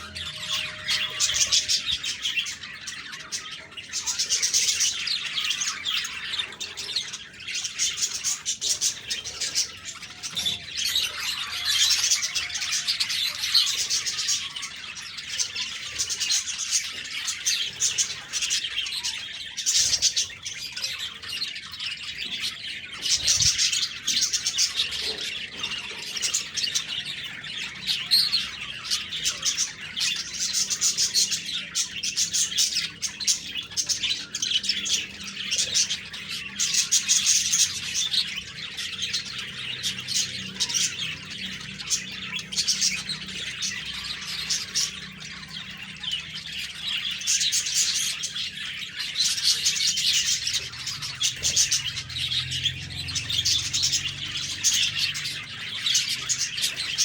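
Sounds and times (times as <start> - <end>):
bird squawks: 0.0 - 57.0
budgerigars chirping: 0.0 - 57.0.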